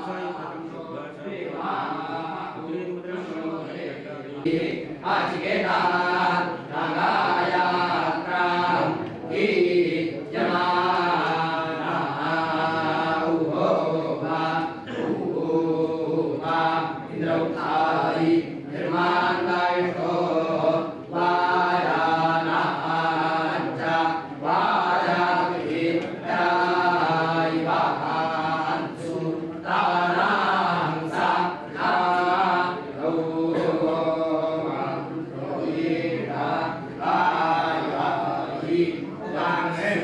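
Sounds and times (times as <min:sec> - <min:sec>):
men chanting together: 0:00.0 - 0:40.0.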